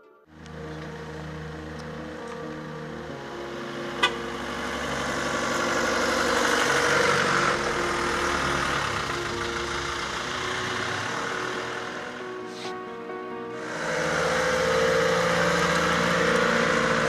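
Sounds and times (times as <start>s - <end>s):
van driving past: 0.3s - 17.0s.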